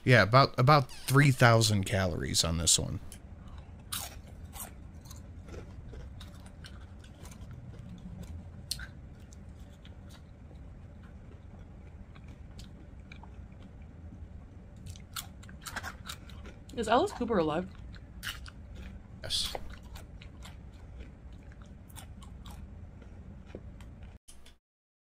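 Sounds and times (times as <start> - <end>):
steady low hum: 0.0 - 24.5
woman chewing and biting food: 3.1 - 24.6.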